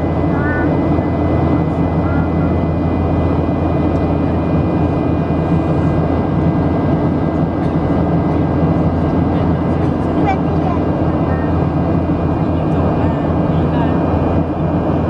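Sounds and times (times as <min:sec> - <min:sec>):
jet engine cabin drone: 0:00.0 - 0:15.0.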